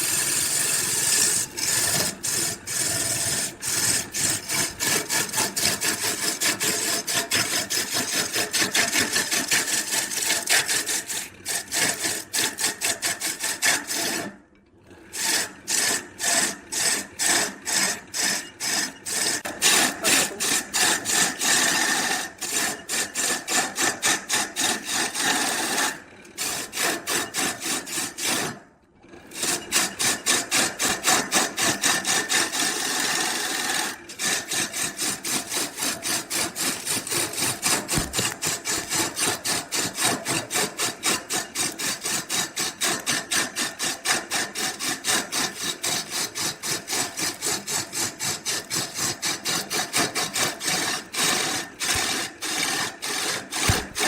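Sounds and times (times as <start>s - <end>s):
hand tool scraping wood: 0.0s - 14.4s, 15.2s - 28.6s, 29.2s - 54.0s.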